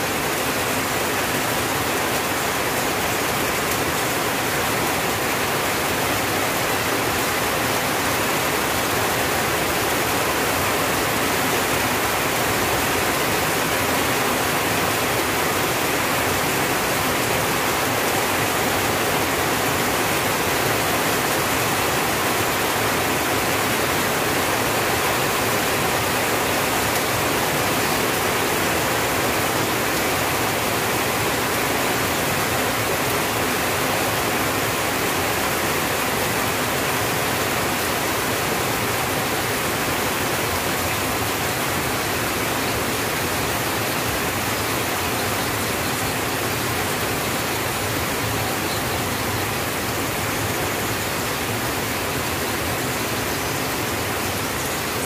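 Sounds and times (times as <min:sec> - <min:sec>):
rain on a tin roof: 0:00.0 - 0:55.0.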